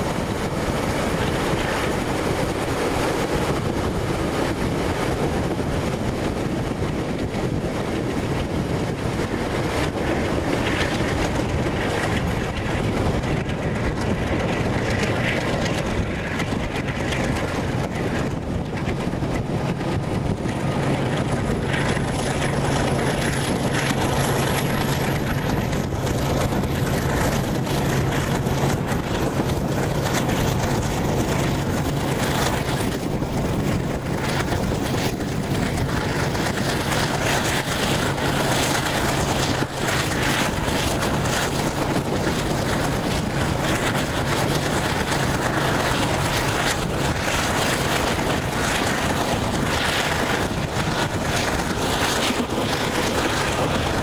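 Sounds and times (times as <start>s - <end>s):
wind and train wheel noise: 0.0s - 54.0s.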